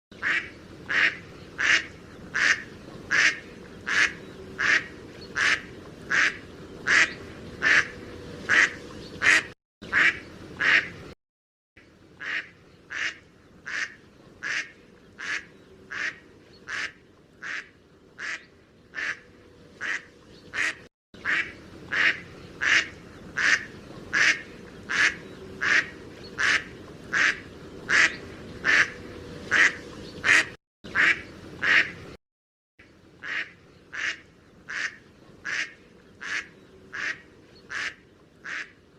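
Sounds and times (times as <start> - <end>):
duck quacking: 0.2 - 7.9, 8.5 - 11.0, 12.2 - 19.2, 19.8 - 32.0, 33.2 - 38.7.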